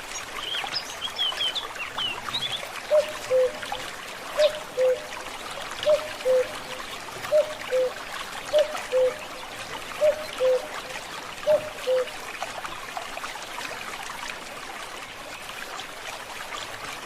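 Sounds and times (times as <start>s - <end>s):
stream trickling: 0.0s - 17.0s.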